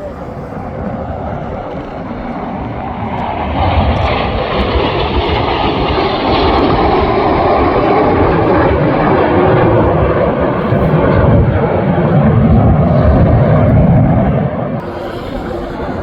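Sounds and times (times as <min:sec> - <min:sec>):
aircraft engine roar flying over: 0:00.0 - 0:16.0.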